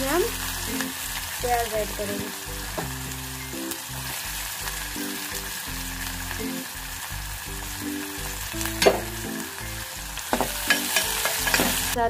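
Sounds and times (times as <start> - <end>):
low background music: 0.0 - 12.0
onions sizzling in hot oil: 0.0 - 12.0.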